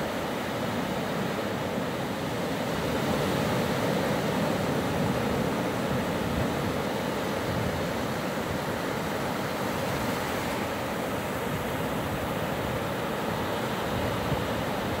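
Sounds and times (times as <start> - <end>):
waves breaking on sand: 0.0 - 15.0.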